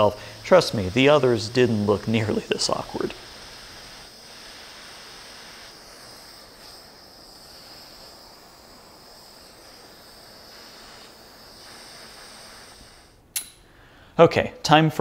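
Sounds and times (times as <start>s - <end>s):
torch flame hissing: 0.0s - 13.3s.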